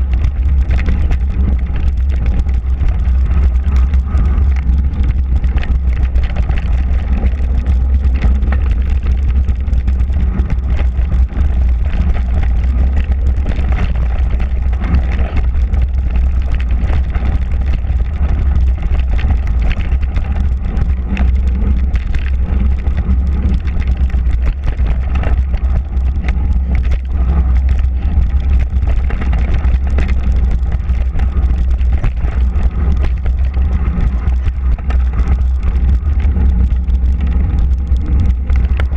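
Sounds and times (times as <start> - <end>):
bike clicks and rattles: 0.0 - 38.9
tyres rolling on packed dirt: 0.0 - 38.9.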